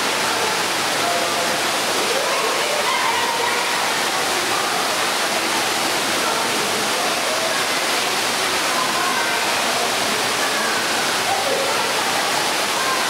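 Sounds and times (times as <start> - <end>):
water jets spraying and splashing: 0.0 - 13.0.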